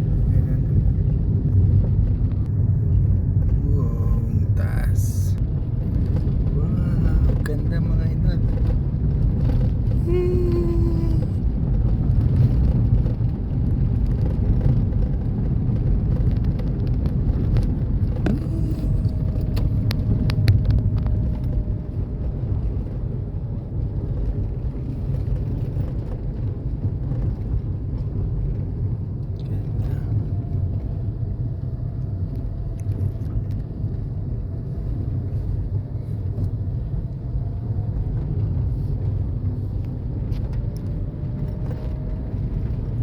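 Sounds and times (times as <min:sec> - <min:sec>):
vehicle rumble: 0:00.0 - 0:43.0.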